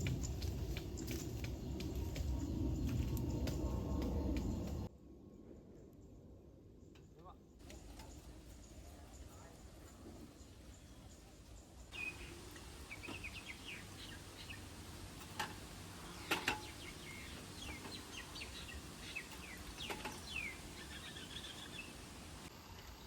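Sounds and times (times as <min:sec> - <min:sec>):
small birds chirping: 0:00.0 - 0:04.9, 0:06.8 - 0:23.0.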